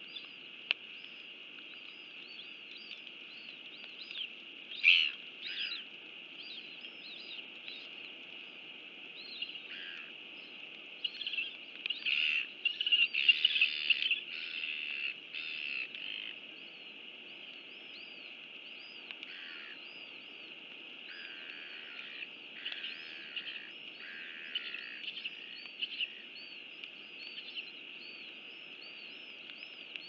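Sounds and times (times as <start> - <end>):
birds chirping: 0.0 - 30.0
steady hiss: 0.0 - 30.0.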